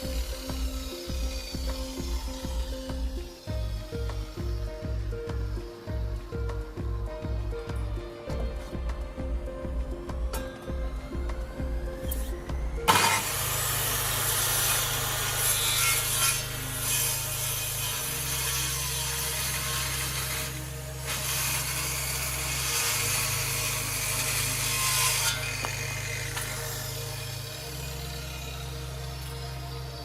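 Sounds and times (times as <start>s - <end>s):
power tool cutting wood: 0.0s - 6.6s, 10.3s - 30.0s.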